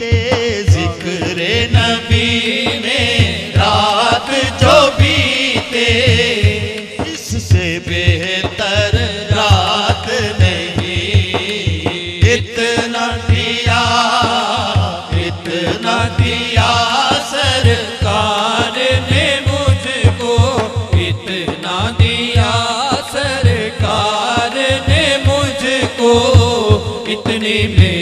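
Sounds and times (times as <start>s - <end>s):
frame drum beat: 0.0s - 28.0s
man singing into microphone: 0.0s - 28.0s.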